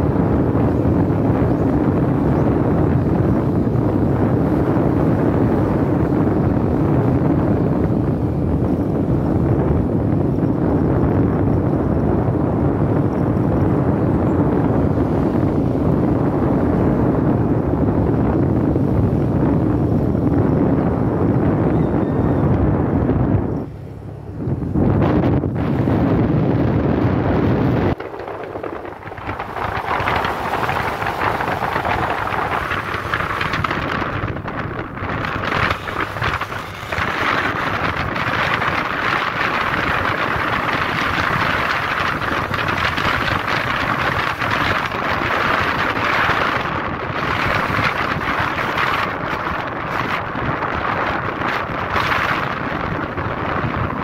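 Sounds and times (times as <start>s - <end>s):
road and engine noise: 0.0s - 54.0s
wind rushing over microphone: 0.0s - 54.0s.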